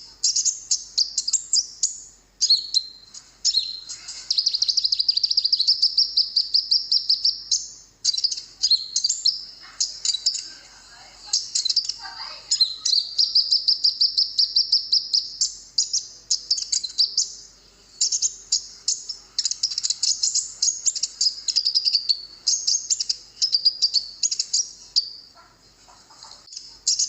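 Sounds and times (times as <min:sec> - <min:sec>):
sunbird singing trills and chirps: 0:00.0 - 0:27.0.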